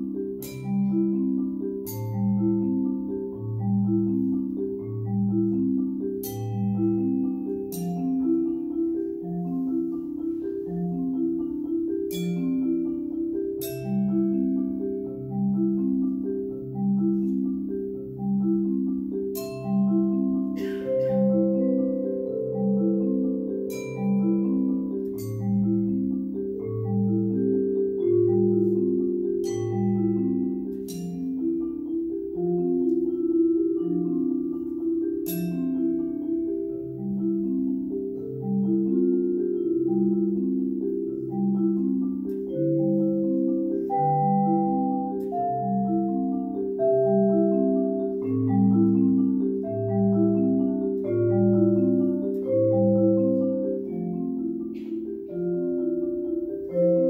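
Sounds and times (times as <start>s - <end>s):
marimba: 0.0s - 57.0s
vibraphone: 0.0s - 57.0s.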